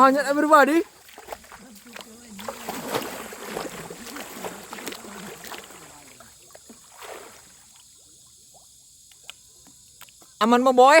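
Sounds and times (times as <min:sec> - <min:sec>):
water splashing around boat: 0:00.0 - 0:09.6
night insects buzzing: 0:00.0 - 0:11.0.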